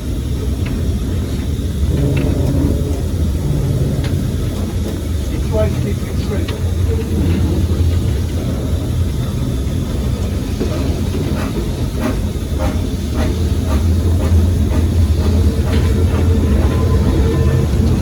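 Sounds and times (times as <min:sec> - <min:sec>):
train rumbling on rails: 0:00.0 - 0:18.0
wheels clicking and squealing: 0:01.4 - 0:18.0.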